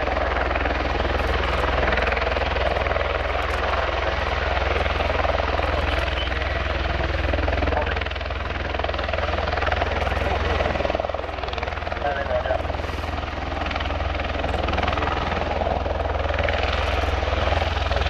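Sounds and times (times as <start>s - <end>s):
broad engine rush: 0.0s - 18.0s
low pulsing rotor beat: 0.0s - 18.0s.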